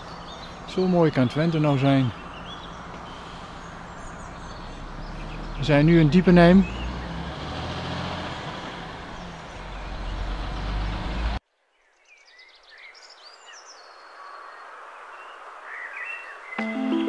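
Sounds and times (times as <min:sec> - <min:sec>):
faint birds chirping: 0:00.0 - 0:16.8.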